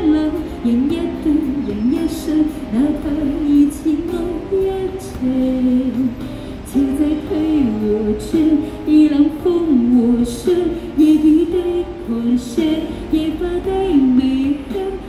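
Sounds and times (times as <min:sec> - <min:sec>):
woman singing slow pop song: 0:00.0 - 0:15.0.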